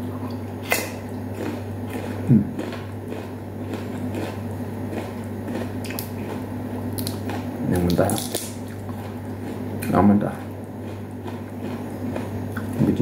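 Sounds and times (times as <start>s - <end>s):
biting and chewing fruit: 0.0s - 13.0s
steady low hum: 0.0s - 13.0s.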